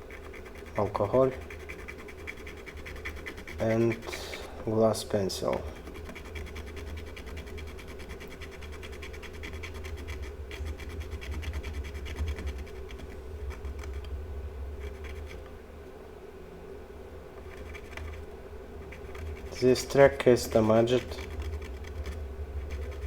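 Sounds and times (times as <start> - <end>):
pen scratching circuit board: 0.0 - 4.1, 5.4 - 14.1, 14.8 - 15.4, 17.4 - 18.2, 18.8 - 23.0
steady low hum: 0.0 - 23.0.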